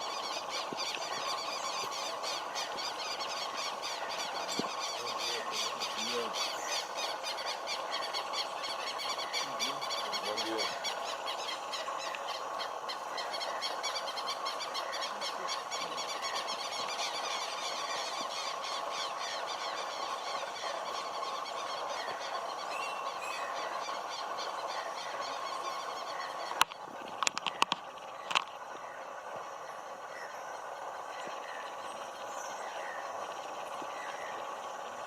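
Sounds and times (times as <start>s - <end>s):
high chirring and buzzing calls: 0.0s - 35.0s.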